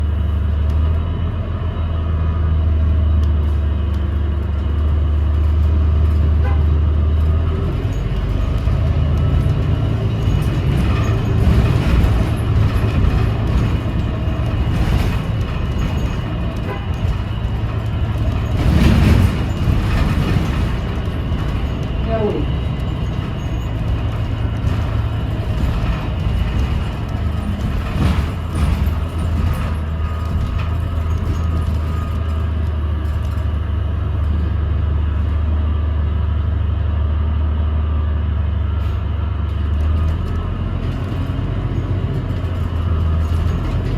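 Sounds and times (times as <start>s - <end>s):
bus low drone: 0.0s - 43.9s
bus running noise: 0.0s - 43.9s.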